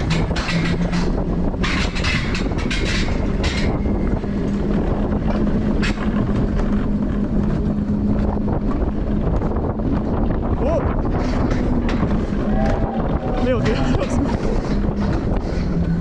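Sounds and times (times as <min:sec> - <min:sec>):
coaster wheels rumbling on track: 0:00.0 - 0:16.0
constant hum: 0:00.0 - 0:16.0
wind on microphone: 0:00.0 - 0:16.0.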